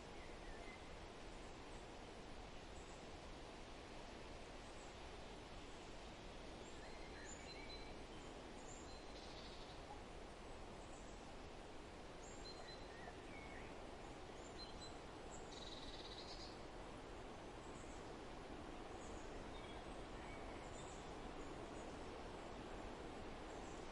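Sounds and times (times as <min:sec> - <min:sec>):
soft steady hiss: 0:00.0 - 0:23.9.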